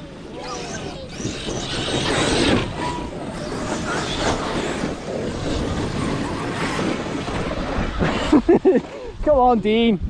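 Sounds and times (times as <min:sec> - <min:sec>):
electric motors whining: 0:00.0 - 0:09.0
tyres scrabbling over dirt: 0:00.5 - 0:09.0.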